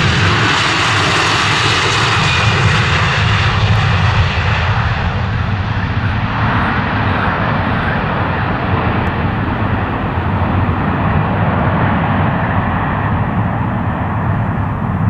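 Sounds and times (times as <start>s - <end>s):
airliner engines passing: 0.0s - 15.0s.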